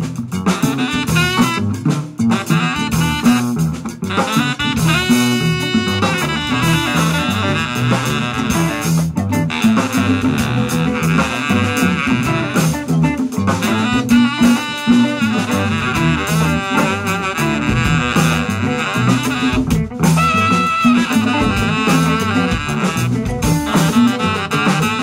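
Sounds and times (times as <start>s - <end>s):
drum kit with cymbals: 0.0s - 25.0s
low bass notes: 0.0s - 25.0s
saxophone melody: 0.0s - 25.0s.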